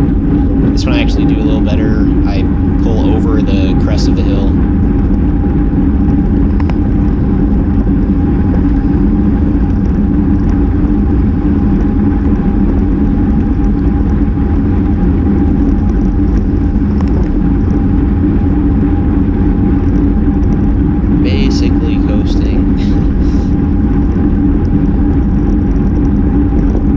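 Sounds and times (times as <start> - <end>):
low steady hum: 0.0 - 26.9
wind rushing over microphone: 0.0 - 26.9.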